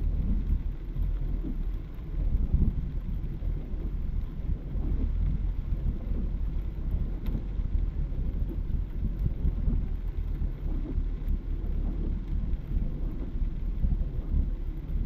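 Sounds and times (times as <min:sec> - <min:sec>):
heavy rain on car body: 0:00.0 - 0:15.0.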